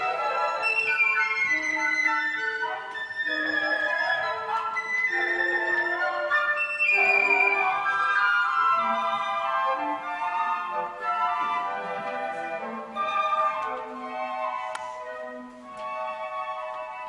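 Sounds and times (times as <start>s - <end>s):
flutes playing in harmony: 0.0s - 17.0s.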